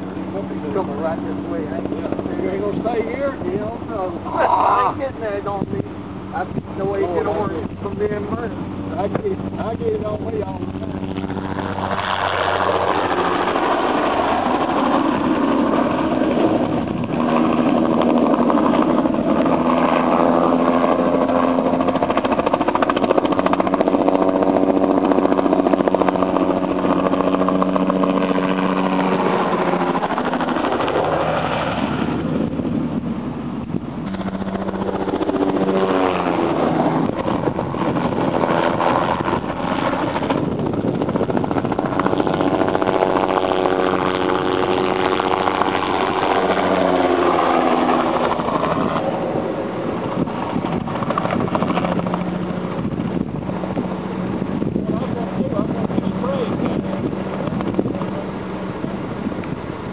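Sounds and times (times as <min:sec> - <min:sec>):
helicopter rotor beat: 0:00.0 - 0:59.9.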